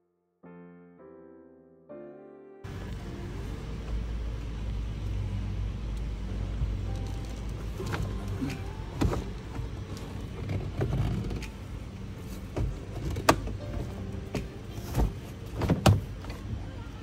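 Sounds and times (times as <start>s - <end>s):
steady low hum: 2.7s - 17.0s.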